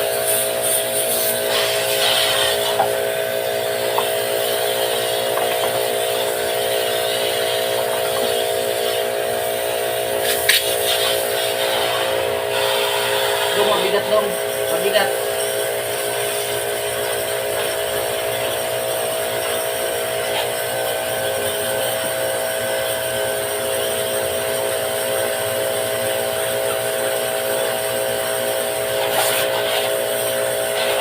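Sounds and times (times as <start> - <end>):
small electric motor humming: 0.0 - 31.0.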